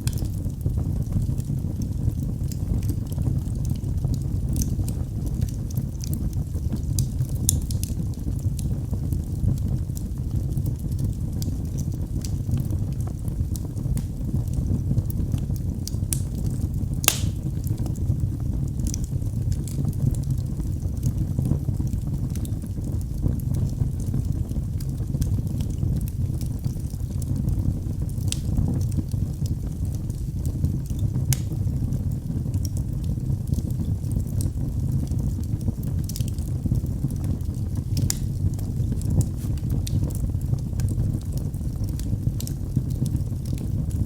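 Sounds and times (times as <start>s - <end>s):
fire crackling and popping: 0.0s - 44.0s
low rumble of flame: 0.0s - 44.0s.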